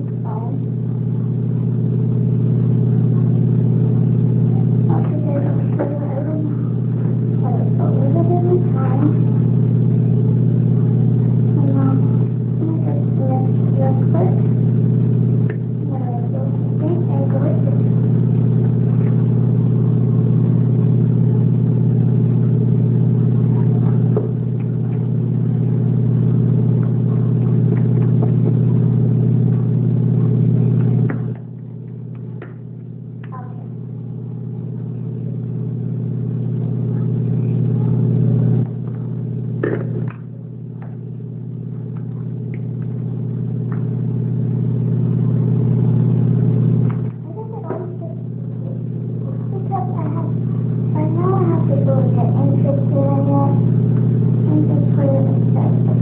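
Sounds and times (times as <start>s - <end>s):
low electrical machine hum: 0.0s - 56.0s.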